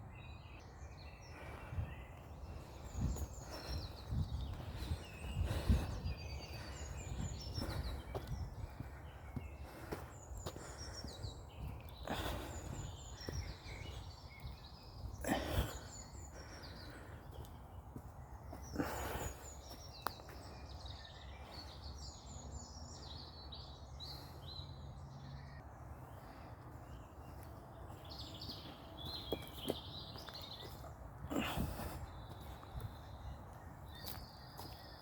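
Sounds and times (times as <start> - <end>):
birds chirping and trilling: 0.0 - 35.0
footsteps rustling on path: 1.3 - 20.6, 26.0 - 35.0.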